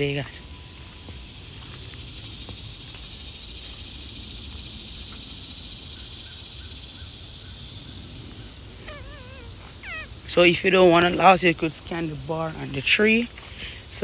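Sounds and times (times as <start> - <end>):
faint chirps: 0.0 - 14.0
insect chorus drone: 0.0 - 14.0.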